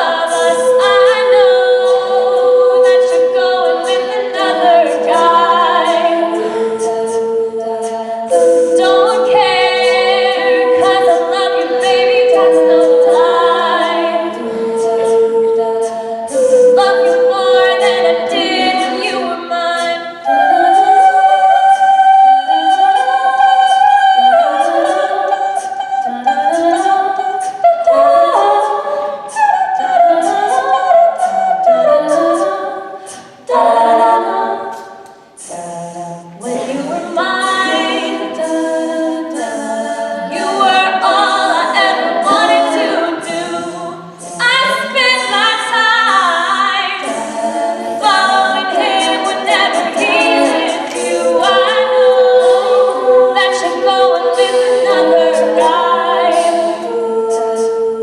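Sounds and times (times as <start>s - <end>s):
a cappella group singing in harmony: 0.0s - 58.0s.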